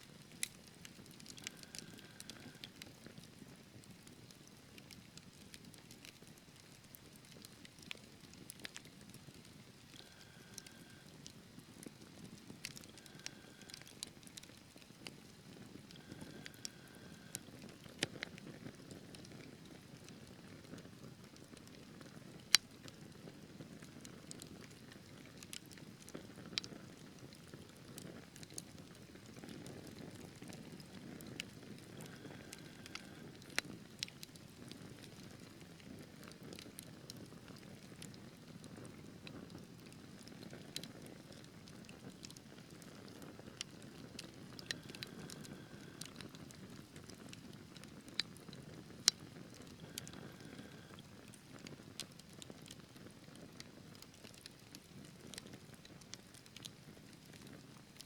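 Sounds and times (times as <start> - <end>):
logs crackling and popping: 0.0 - 58.0
low rumble of flames: 0.1 - 58.0.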